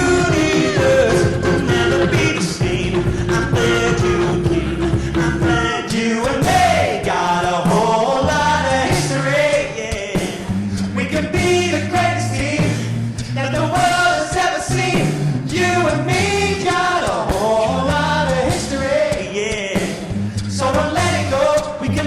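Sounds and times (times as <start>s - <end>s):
male group singing harmonies: 0.0s - 22.0s
sung bass line: 0.0s - 22.0s.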